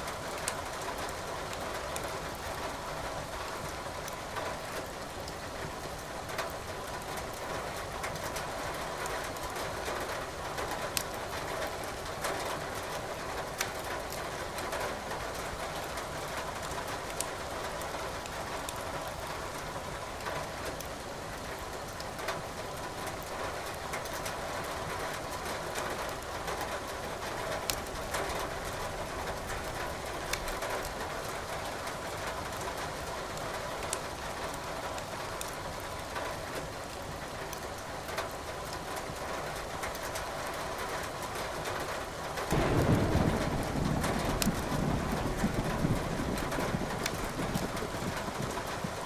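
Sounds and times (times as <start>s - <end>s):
steady rain: 0.0s - 49.0s
wood crackling in a fireplace: 3.4s - 22.1s, 22.8s - 49.0s.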